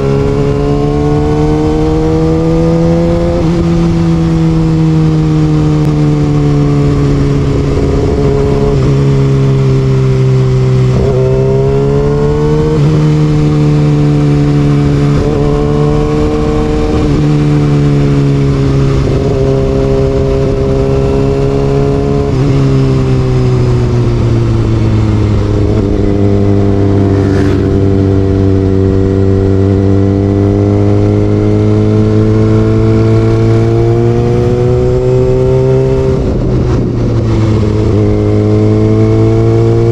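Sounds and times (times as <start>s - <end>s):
sport motorcycle engine revving: 0.0s - 39.9s.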